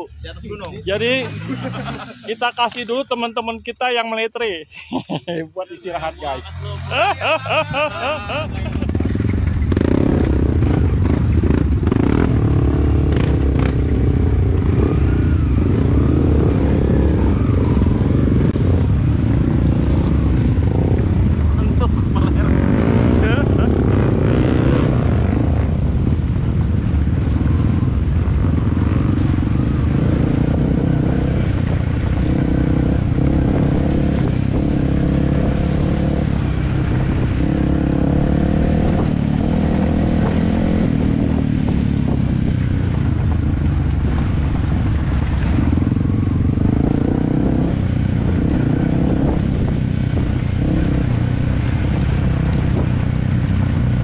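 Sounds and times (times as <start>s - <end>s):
motorcycle engine revving: 0.0s - 2.9s, 6.3s - 54.0s.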